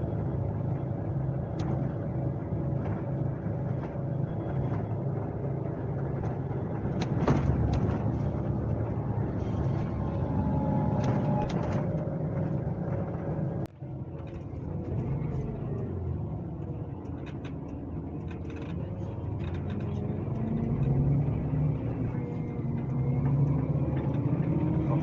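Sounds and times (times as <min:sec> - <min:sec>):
diesel engine running: 0:00.0 - 0:25.0
road noise: 0:00.0 - 0:25.0.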